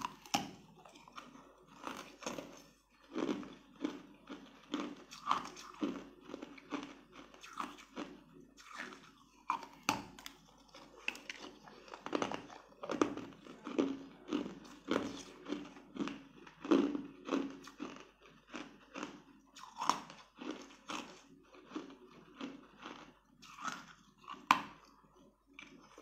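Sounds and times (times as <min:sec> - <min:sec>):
chewing jelly sweet: 0:00.0 - 0:26.0.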